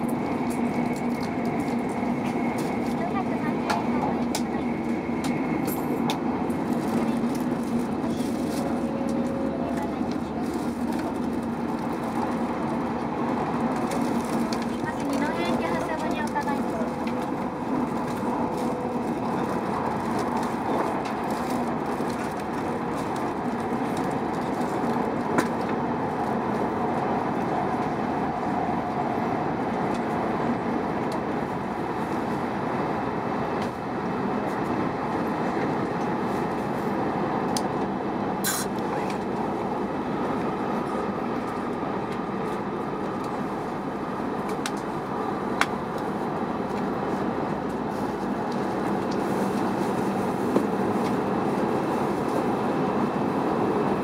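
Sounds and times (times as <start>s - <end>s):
train rumble from inside: 0.0s - 54.0s.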